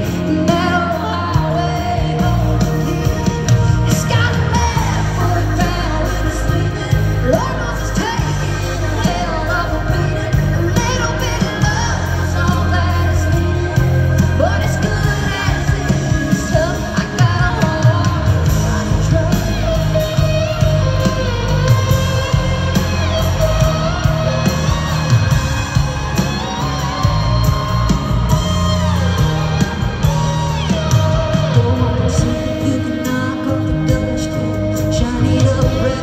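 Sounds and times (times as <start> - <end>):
live country band: 0.0 - 36.0
woman singing: 0.0 - 36.0.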